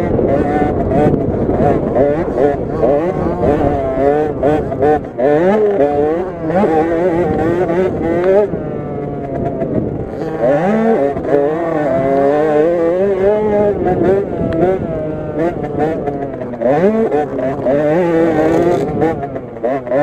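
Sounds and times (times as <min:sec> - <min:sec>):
minibike two-stroke engine revving: 0:00.0 - 0:20.0.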